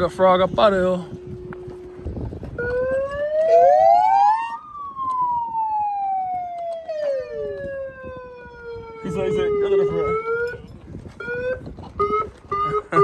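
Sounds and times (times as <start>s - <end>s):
siren wailing: 0.7s - 13.0s.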